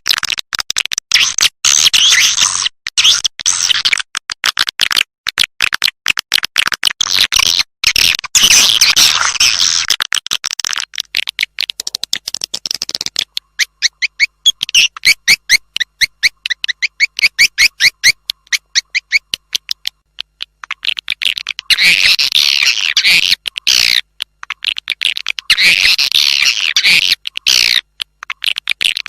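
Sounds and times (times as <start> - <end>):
recorded bird clicks and twittering: 0.0 - 29.0.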